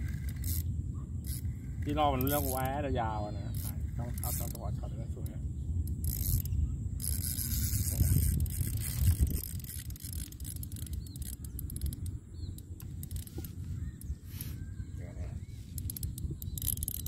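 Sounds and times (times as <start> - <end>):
fishing reel clicks and scrapes: 0.0 - 14.7, 15.4 - 17.0
wind rumble on microphone: 0.0 - 17.0.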